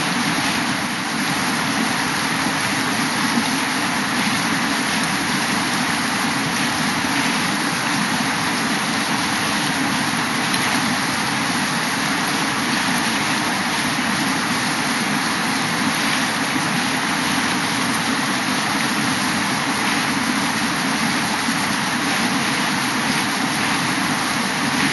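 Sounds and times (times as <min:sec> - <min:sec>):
river water rushing around rocks: 0:00.0 - 0:24.9.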